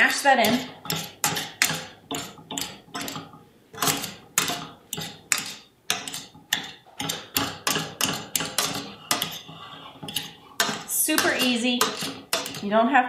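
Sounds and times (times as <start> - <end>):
masher clacking against metal pan: 0.0 - 12.8.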